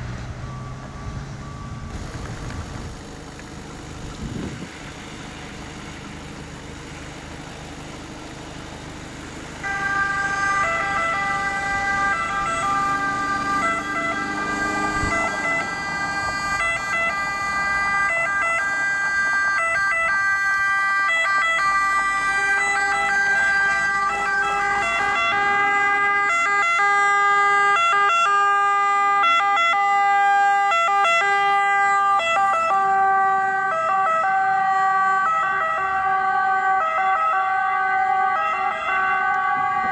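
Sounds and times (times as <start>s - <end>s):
vehicle engine running: 0.0s - 39.9s
two-tone siren: 0.2s - 2.2s, 8.7s - 39.9s.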